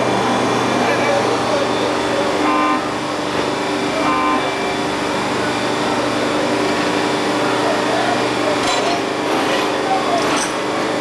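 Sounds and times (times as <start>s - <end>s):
machine engine drone: 0.0s - 11.0s.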